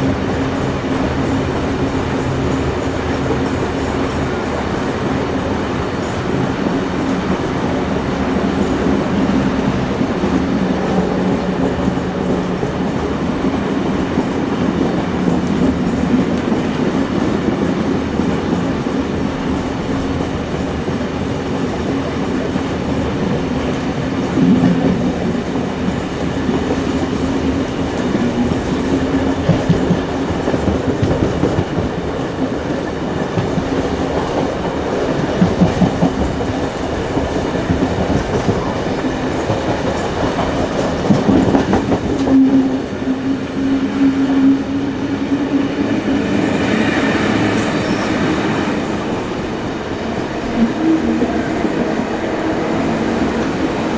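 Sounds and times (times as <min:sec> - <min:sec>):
train wheels clacking on rails: 0:00.0 - 0:53.9.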